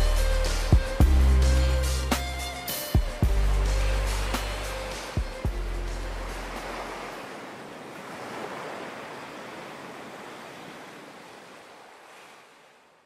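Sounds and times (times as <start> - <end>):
waves breaking: 0.0 - 13.0.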